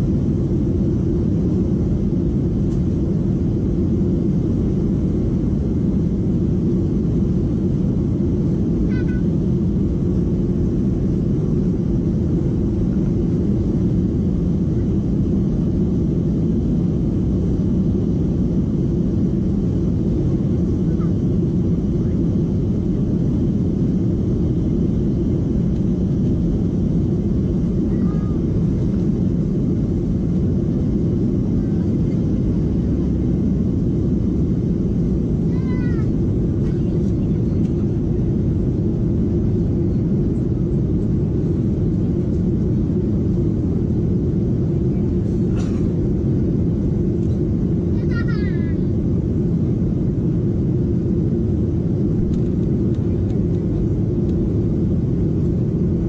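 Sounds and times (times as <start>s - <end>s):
jet engines deep rumble in cabin: 0.0s - 56.0s.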